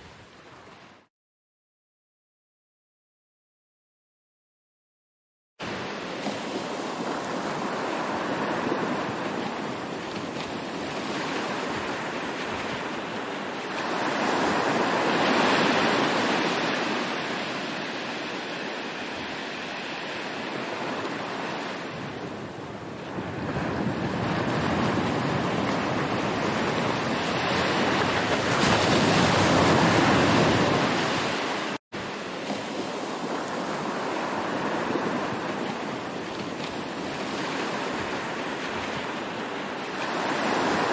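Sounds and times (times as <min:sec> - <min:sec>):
ocean waves washing: 0:05.6 - 0:40.9.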